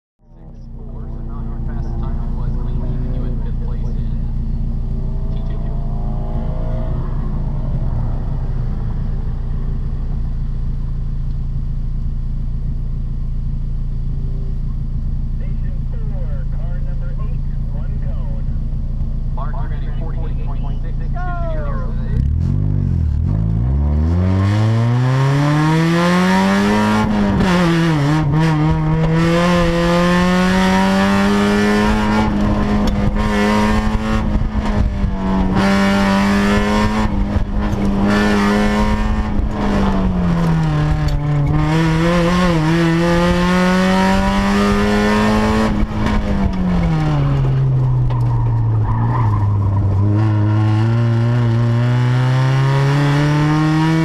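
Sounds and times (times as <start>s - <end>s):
car engine revving: 0.2s - 54.0s.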